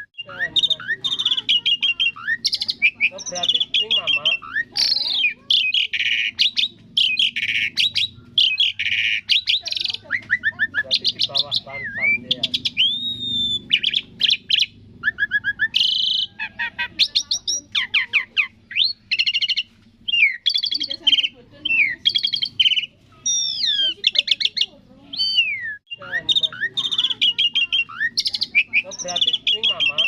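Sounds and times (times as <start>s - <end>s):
starling singing: 0.0s - 30.0s.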